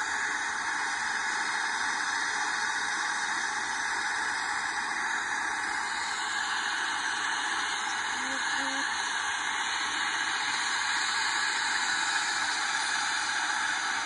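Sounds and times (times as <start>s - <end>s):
helicopter turbine hiss: 0.0s - 14.0s.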